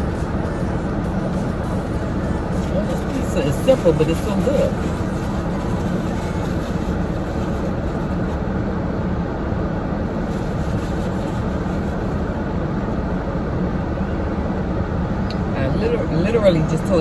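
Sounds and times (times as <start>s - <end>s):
running vehicle rumble: 0.0s - 17.0s.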